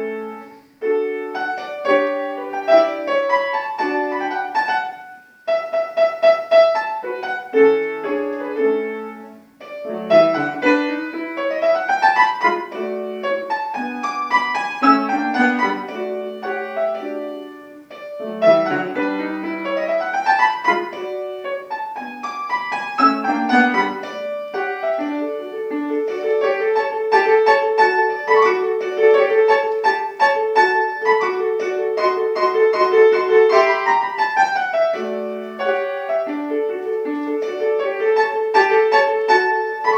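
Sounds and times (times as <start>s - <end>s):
solo piano classical piece: 0.0s - 39.9s.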